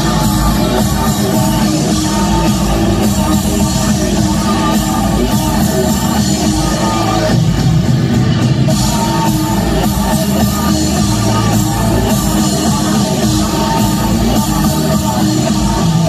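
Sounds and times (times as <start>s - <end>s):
loud live industrial band music: 0.0s - 16.0s.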